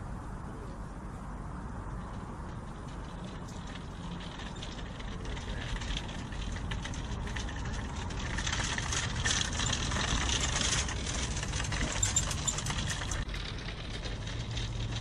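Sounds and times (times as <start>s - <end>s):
cart wheels rolling on asphalt: 1.5s - 15.0s.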